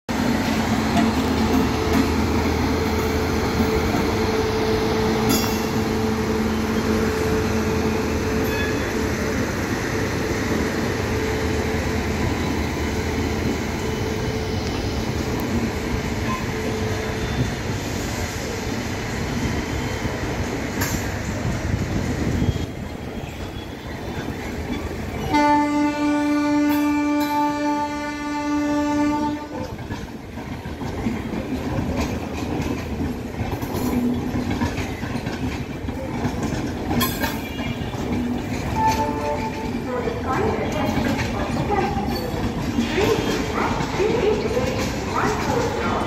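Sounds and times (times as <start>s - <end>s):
train wheels rumbling and rattling: 0.1s - 46.0s.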